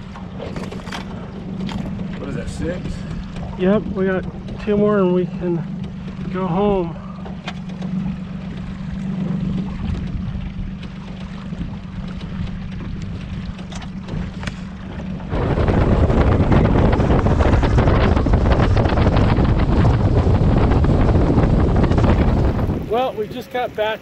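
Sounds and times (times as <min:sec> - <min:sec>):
boat motor humming: 0:00.0 - 0:24.0
rushing water: 0:00.0 - 0:24.0
wind buffeting microphone: 0:00.0 - 0:24.0.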